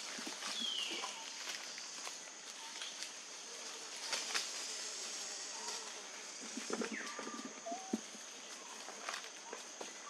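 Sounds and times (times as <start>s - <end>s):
dry leaves rustling: 0.0s - 10.0s.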